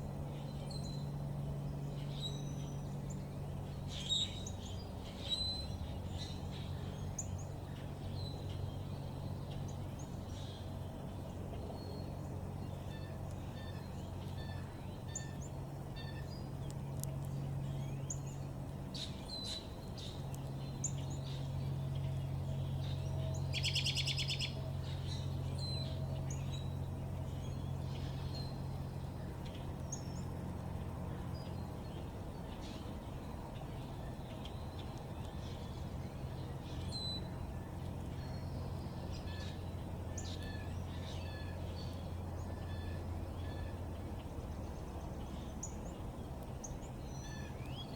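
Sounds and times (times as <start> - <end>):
steady low hum: 0.0 - 47.9
small birds chirping: 0.3 - 47.9.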